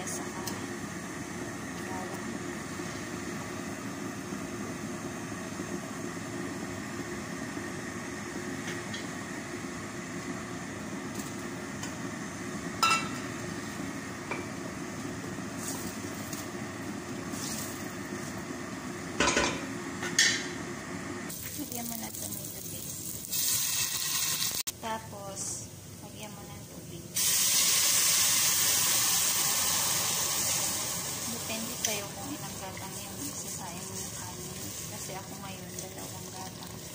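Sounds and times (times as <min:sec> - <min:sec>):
low fan hum: 0:00.0 - 0:36.9
onions sauteing in oil: 0:00.1 - 0:20.0, 0:20.6 - 0:24.7, 0:27.1 - 0:36.9.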